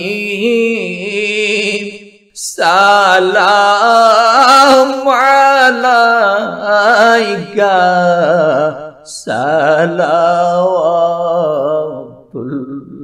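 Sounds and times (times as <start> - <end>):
devotional chant singing: 0.0 - 13.0.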